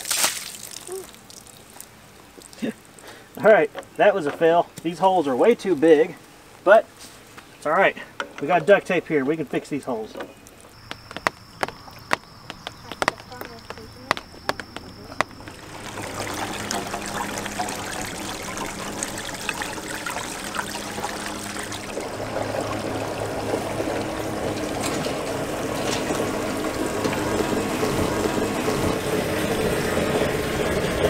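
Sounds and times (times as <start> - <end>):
water rushing through piping: 0.0 - 31.0.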